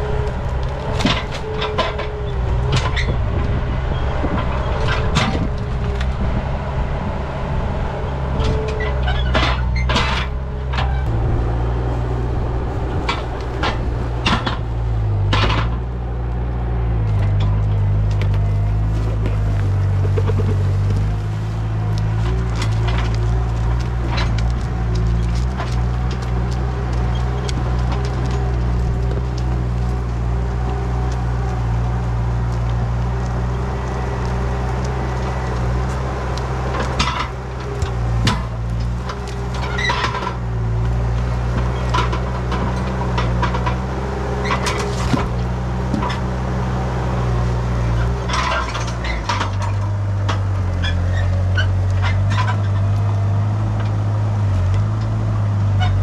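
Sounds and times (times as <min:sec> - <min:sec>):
logs knocking and clunking: 0:00.0 - 0:06.5, 0:08.2 - 0:56.0
diesel engine running: 0:00.0 - 0:56.0.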